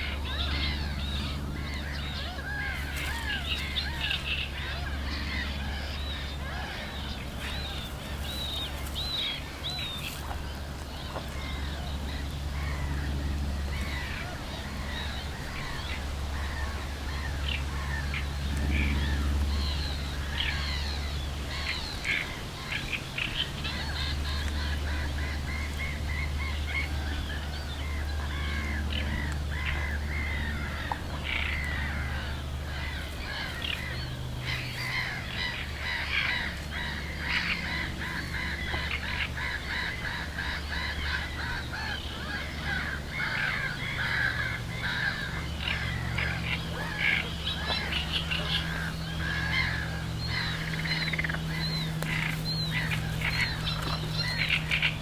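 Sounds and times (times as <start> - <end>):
birds calling and chirping: 0.0 - 55.0
steady low hum: 0.0 - 55.0.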